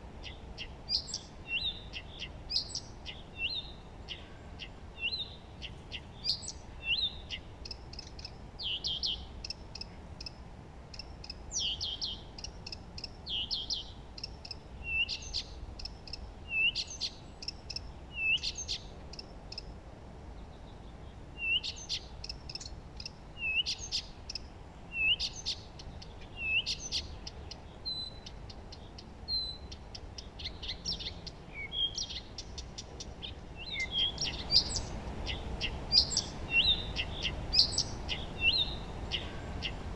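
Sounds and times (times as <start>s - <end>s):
faint background hiss: 0.0s - 39.9s
songbirds chirping: 0.0s - 39.9s.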